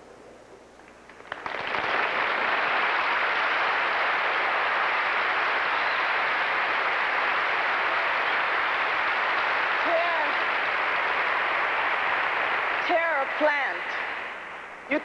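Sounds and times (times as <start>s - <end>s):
audience applauding: 1.0s - 15.0s.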